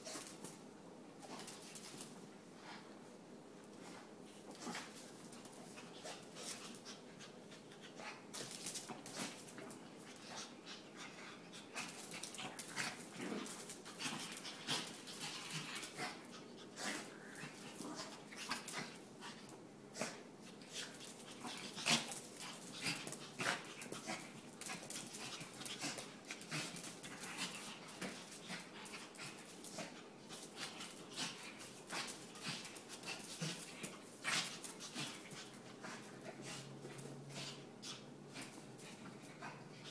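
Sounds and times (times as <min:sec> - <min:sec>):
claws and paws scuffing on tiles: 0:00.0 - 0:03.0, 0:03.6 - 0:39.9.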